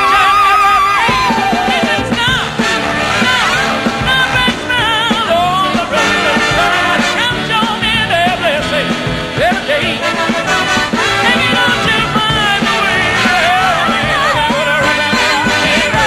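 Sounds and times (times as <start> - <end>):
orchestra playing brisk song: 0.0 - 16.0.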